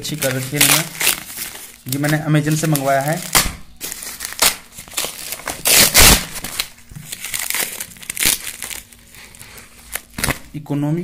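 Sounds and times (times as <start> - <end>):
cardboard and plastic wrap crinkling: 0.0 - 10.6.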